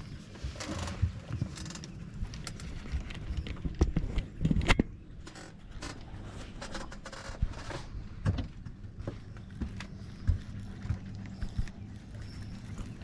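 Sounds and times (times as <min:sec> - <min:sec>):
fishing gear knocking and scraping: 0:00.0 - 0:13.0
steady low hum: 0:00.0 - 0:13.0.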